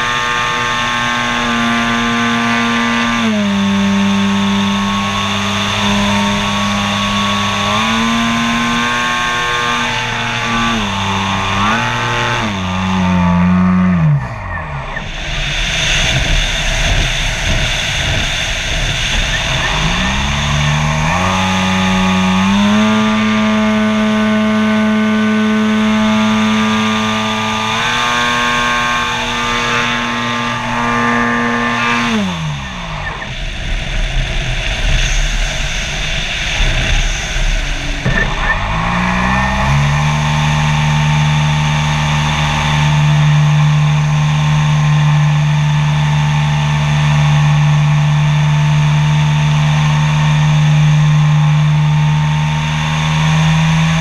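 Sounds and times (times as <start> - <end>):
model airplane propeller motor: 0.0 - 54.0.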